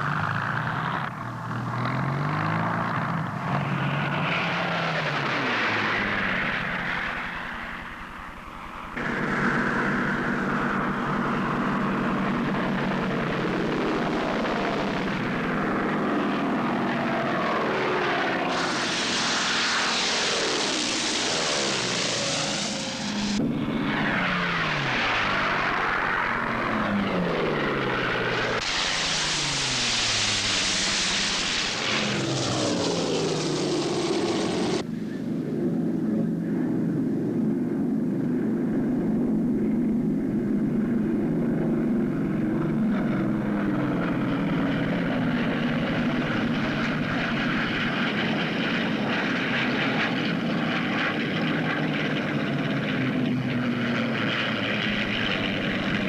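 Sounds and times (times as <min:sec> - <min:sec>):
propeller planes flying past: 0:00.0 - 0:56.0.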